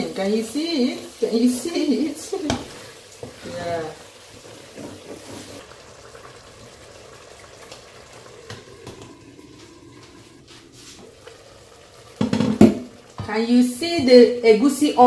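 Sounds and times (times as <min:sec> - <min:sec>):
soup bubbling in a pot: 0:00.1 - 0:15.0.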